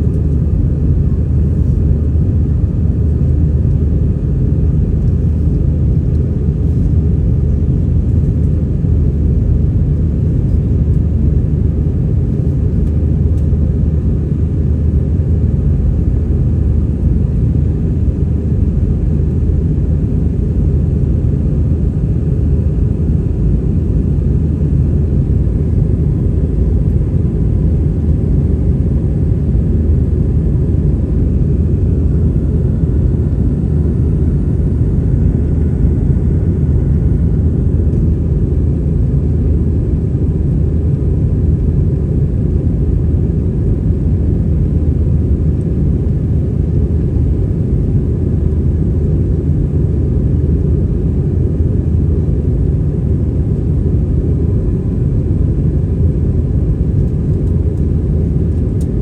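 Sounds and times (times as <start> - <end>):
airplane engine rumble in cabin: 0.0 - 59.0.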